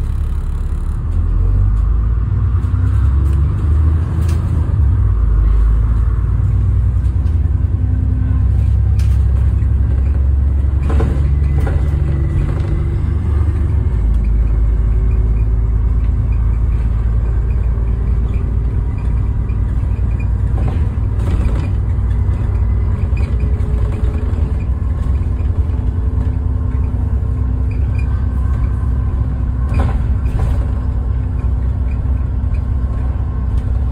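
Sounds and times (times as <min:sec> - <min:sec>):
bus engine rumble: 0:00.0 - 0:33.9
knocks and rattles from bus body: 0:05.6 - 0:33.9.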